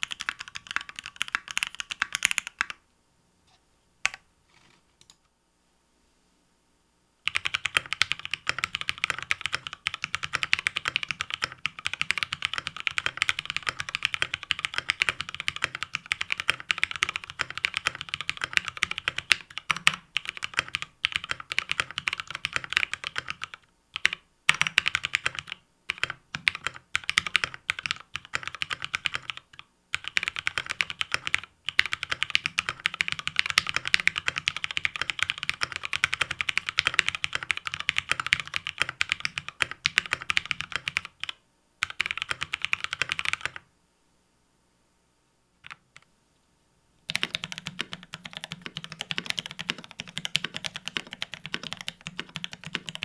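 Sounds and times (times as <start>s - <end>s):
mechanical keyboard typing: 0.0s - 2.8s, 7.3s - 43.6s, 47.1s - 53.0s.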